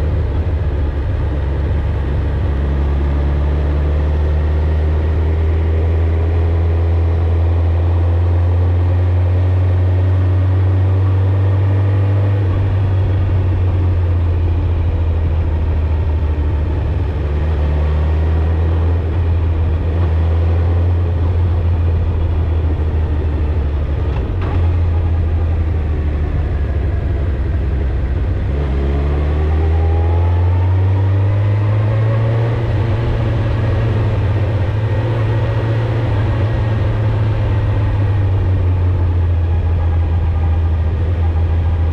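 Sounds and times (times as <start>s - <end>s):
motorcycle engine and exhaust cruising: 0.0s - 41.9s.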